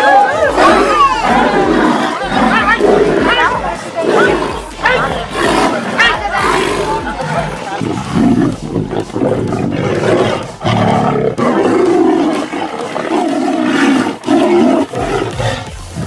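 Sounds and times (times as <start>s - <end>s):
tigers roaring: 0.0s - 16.0s.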